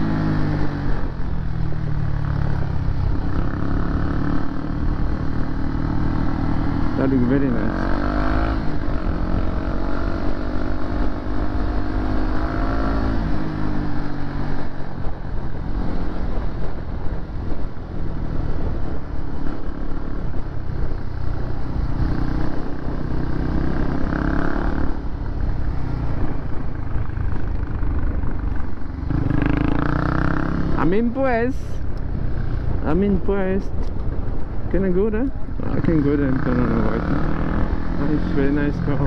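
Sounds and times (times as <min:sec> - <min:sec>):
motorcycle engine running: 0:00.0 - 0:39.0
wind rumble on microphone: 0:00.0 - 0:39.0.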